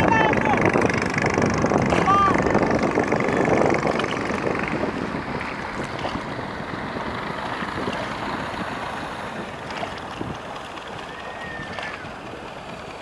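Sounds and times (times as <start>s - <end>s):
water rushing past boat: 0.0s - 13.0s
wind on microphone: 0.0s - 13.0s.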